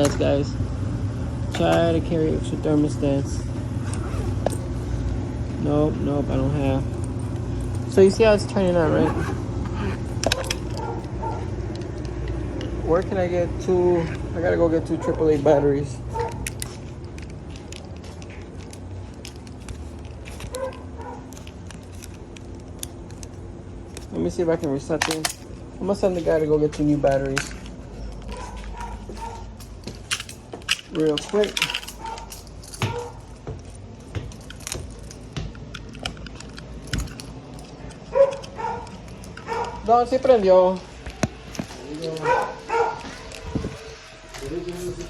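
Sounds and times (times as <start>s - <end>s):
handling noises: 0.0s - 0.5s, 1.4s - 45.0s
low machine hum: 0.0s - 45.0s.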